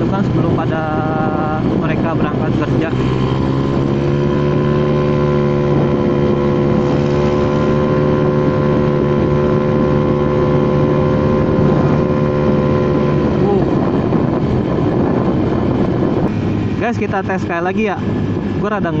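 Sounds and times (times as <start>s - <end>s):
scooter engine at high revs: 0.0s - 19.0s.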